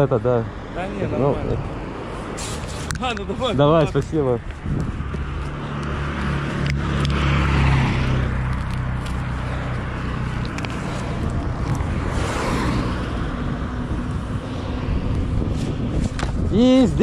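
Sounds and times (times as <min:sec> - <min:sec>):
cars passing by: 0:00.0 - 0:17.0
vehicle engine running nearby: 0:00.1 - 0:17.0.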